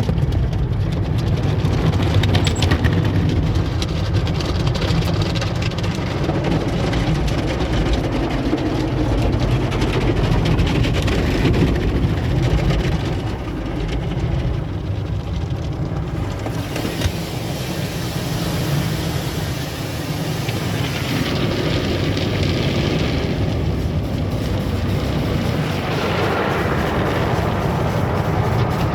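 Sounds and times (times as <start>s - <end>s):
car wash equipment rushing: 0.0s - 28.9s.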